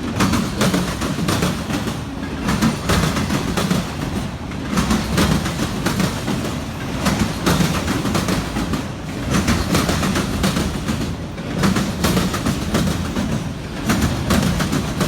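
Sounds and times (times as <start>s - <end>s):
freight train rumble: 0.0s - 15.0s
train wheels clicking over rail joints: 0.0s - 15.0s.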